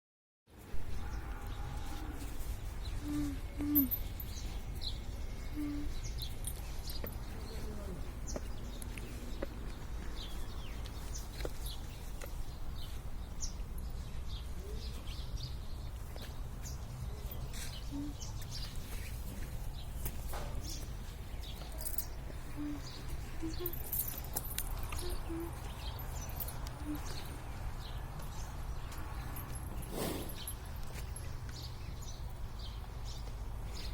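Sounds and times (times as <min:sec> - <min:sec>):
small birds chirping: 0:02.5 - 0:33.9.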